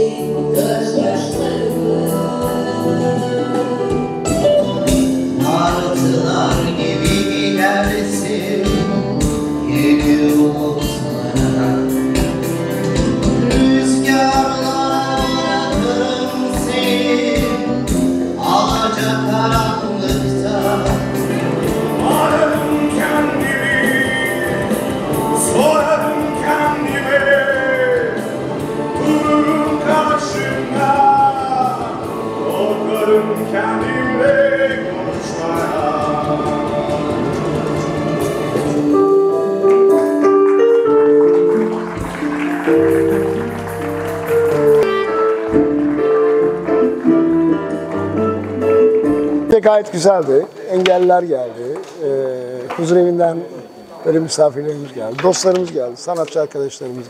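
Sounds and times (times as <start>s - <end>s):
person singing: 0.0s - 49.3s
live band playing: 0.0s - 53.9s.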